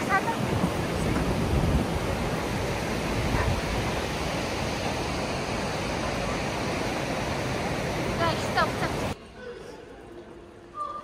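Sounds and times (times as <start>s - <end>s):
river rushing under bridge: 0.0s - 9.2s.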